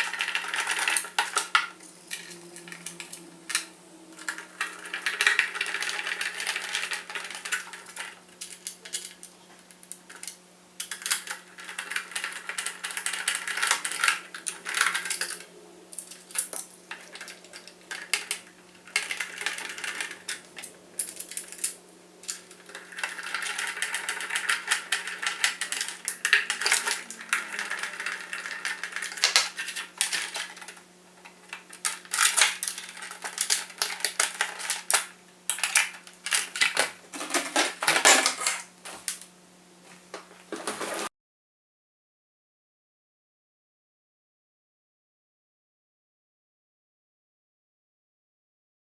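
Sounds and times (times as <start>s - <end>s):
small parts clicking and rattling: 0.0s - 39.3s.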